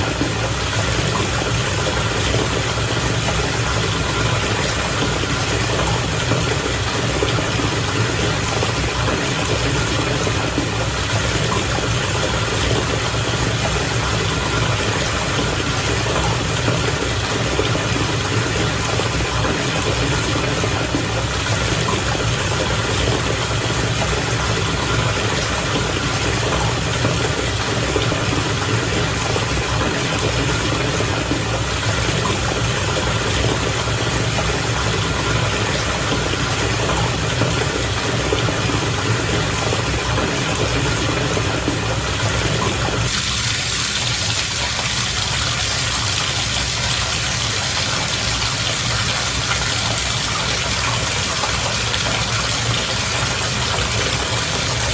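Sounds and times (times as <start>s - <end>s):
bath water bubbling: 0.0s - 54.9s.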